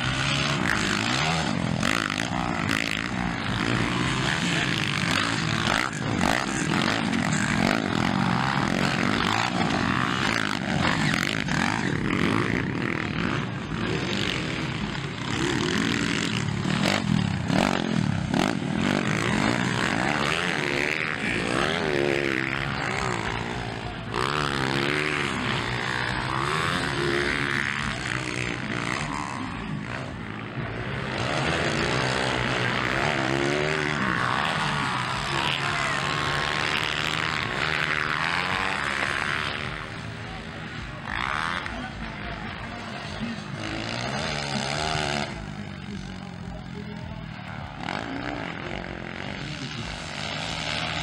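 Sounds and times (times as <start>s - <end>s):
dirt bike engines revving: 0.0s - 51.0s.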